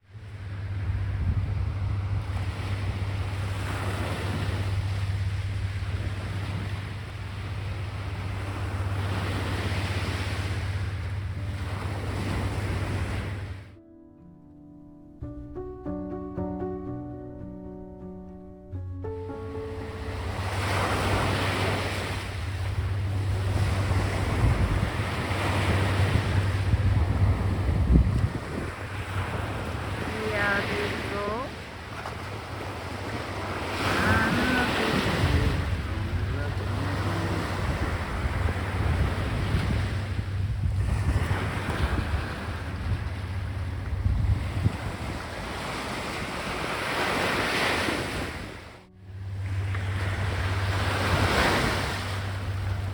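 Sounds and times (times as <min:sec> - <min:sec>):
sea waves breaking on beach: 0:00.0 - 0:13.7, 0:19.4 - 0:52.9
wind rumbling on microphone: 0:00.0 - 0:13.8, 0:19.8 - 0:52.9.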